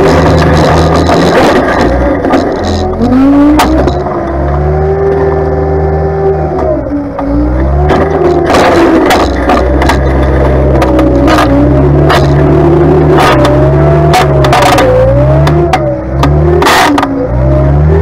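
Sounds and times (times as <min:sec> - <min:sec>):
sharp knocks and rattles: 0:00.0 - 0:05.2, 0:07.9 - 0:17.1
tractor engine revving: 0:00.0 - 0:18.0.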